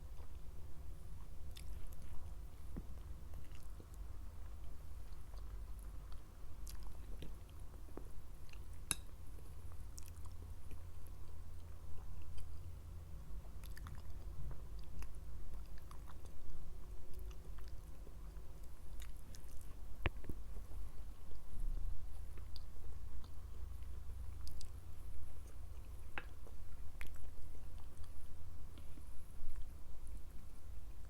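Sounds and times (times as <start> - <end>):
chewing food: 0.0 - 30.6.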